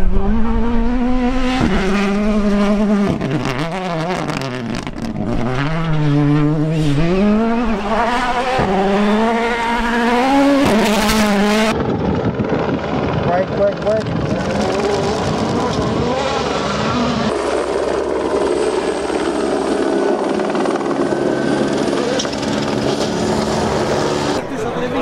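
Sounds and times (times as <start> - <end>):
rally car engine revving: 0.0 - 12.4, 13.0 - 19.8, 21.3 - 24.5.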